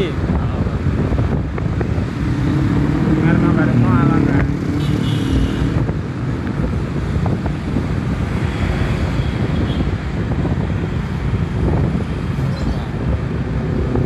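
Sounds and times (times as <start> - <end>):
wind buffeting microphone: 0.0 - 4.7, 5.6 - 14.0
vehicle engine and road noise: 0.0 - 14.0.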